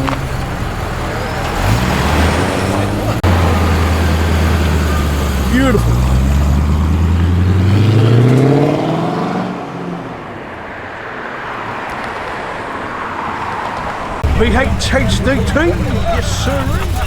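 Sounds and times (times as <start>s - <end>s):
car engine accelerating: 0.0s - 10.3s, 13.0s - 17.0s.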